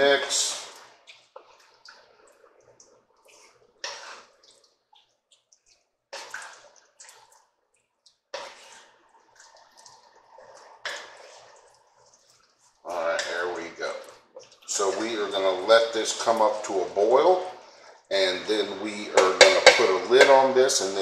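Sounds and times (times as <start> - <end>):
stew squelching as stirred: 0.0 - 21.0.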